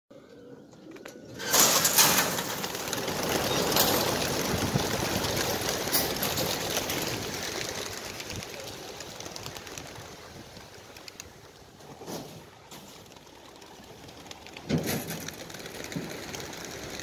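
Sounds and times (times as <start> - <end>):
pigeon wingbeats taking off: 1.4 - 17.0.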